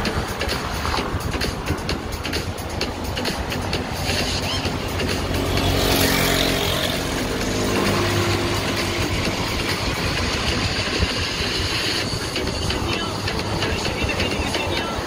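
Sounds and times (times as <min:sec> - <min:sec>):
vehicle engine hum: 0:00.0 - 0:15.0
wind and road rush: 0:00.0 - 0:15.0.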